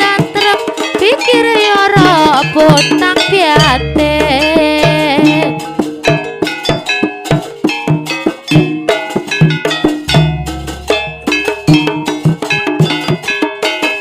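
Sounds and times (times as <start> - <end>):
drumbeats: 0.0 - 14.0
metal gong-chime tones: 2.4 - 14.0.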